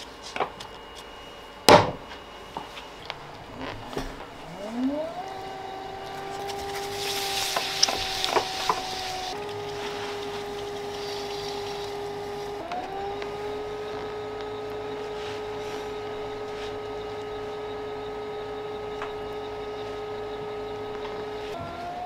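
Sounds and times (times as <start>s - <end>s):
potter's wheel motor whine: 0.0s - 22.0s.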